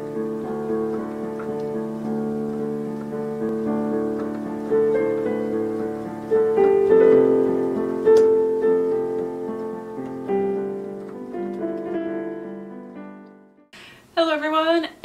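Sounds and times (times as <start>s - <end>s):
slow solo piano: 0.0s - 13.7s.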